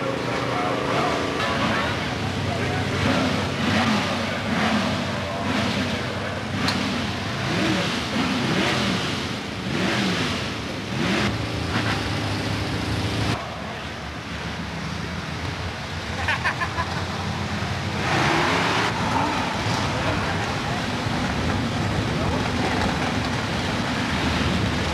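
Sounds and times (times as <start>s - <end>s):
car engine revving: 0.0s - 15.3s, 16.4s - 24.9s.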